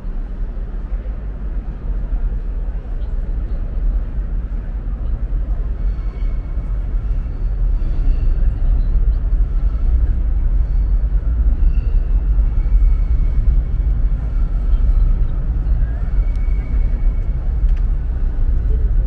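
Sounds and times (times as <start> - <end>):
low rumble of city noise: 0.0 - 19.0.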